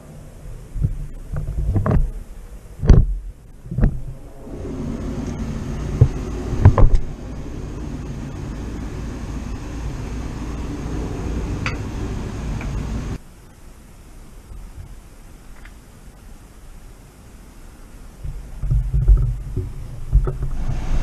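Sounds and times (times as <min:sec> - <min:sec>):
low rumbling hum: 0:00.0 - 0:21.0.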